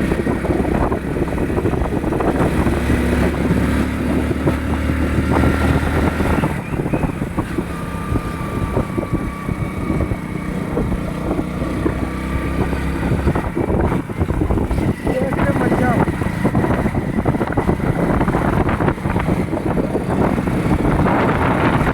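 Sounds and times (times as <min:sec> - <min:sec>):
motorcycle engine running: 0:00.0 - 0:21.9
wind buffeting microphone: 0:00.0 - 0:21.9.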